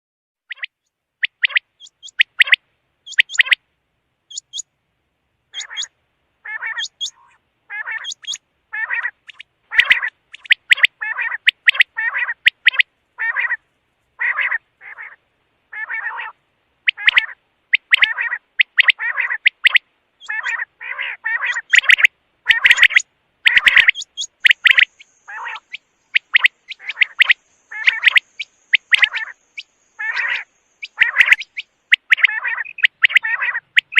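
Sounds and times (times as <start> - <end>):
quail calling: 0.5 - 3.6, 4.3 - 4.7, 5.5 - 13.6, 14.2 - 33.9.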